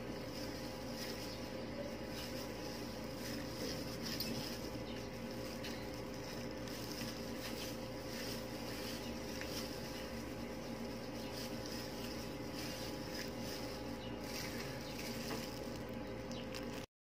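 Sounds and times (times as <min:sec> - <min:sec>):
plastic gloves rustling and squishing: 0:00.0 - 0:16.9
steady low hum: 0:00.0 - 0:16.9.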